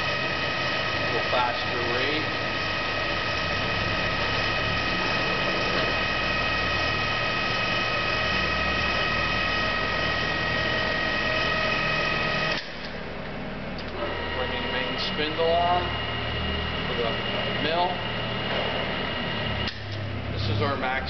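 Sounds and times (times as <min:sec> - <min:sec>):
lathe gear whine: 0:00.0 - 0:21.0
low hum: 0:00.0 - 0:21.0.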